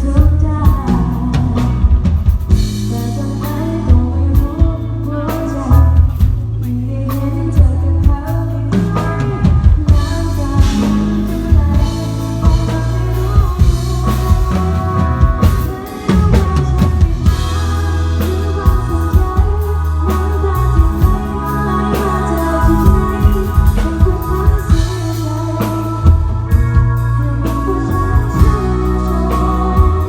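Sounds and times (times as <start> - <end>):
band playing live: 0.0 - 30.0
bass: 0.0 - 30.0
drum kit: 0.0 - 30.0
person singing: 0.0 - 30.0.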